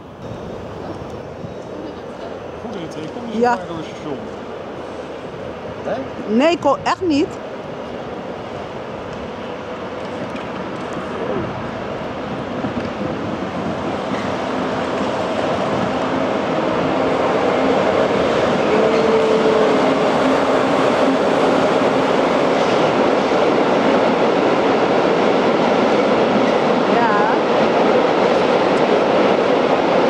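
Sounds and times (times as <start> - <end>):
moving train rolling: 0.0 - 30.0.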